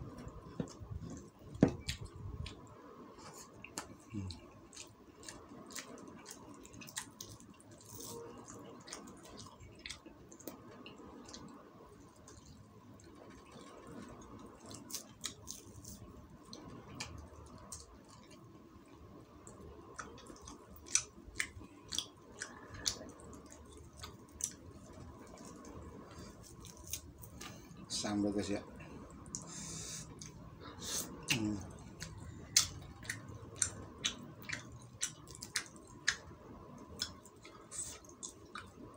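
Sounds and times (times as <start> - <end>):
person chewing meat: 0.3 - 18.4, 19.4 - 27.8, 29.1 - 38.9.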